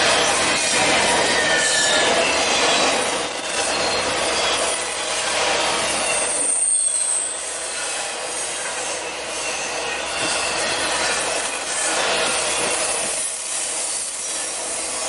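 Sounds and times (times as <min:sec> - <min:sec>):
high wheel squeals: 0:00.0 - 0:15.0
train wheels rushing on rails: 0:00.0 - 0:15.0.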